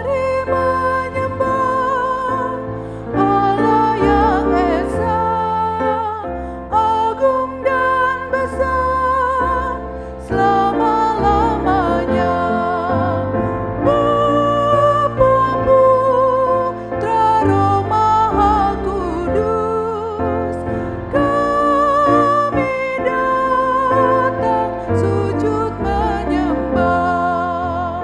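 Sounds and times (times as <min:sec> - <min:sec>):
digital piano chords: 0:00.0 - 0:28.0
woman singing a hymn: 0:00.0 - 0:28.0.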